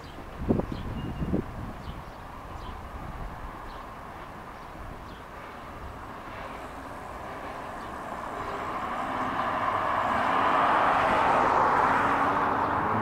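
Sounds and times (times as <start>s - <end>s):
freight train rolling on a bridge: 1.4s - 13.0s.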